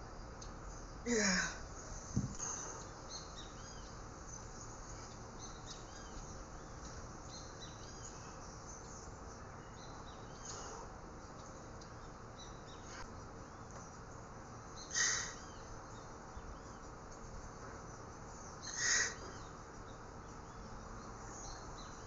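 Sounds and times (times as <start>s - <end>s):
small birds chirping: 0.0s - 22.0s
steady background hiss: 0.0s - 22.0s.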